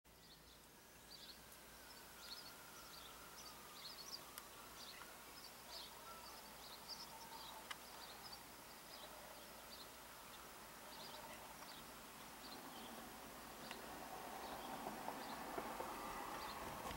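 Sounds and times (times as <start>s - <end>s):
small birds chirping: 0.1s - 16.9s.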